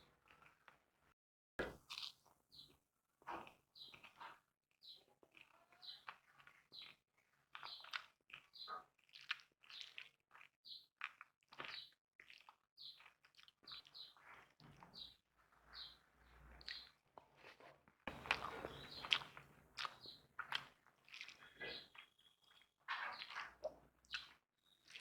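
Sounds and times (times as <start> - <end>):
person chewing and smacking: 1.6 - 2.7, 3.4 - 4.2, 4.8 - 16.0, 16.6 - 25.0.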